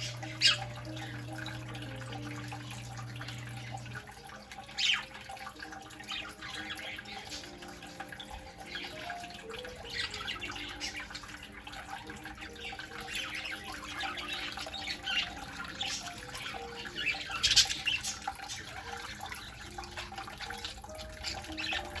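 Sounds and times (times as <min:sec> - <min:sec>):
fountain water trickling and splashing: 0:00.0 - 0:22.0.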